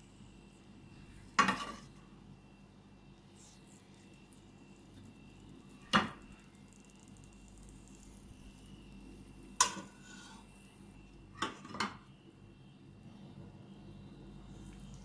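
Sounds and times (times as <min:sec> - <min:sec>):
faint background hum: 0:00.0 - 0:15.0.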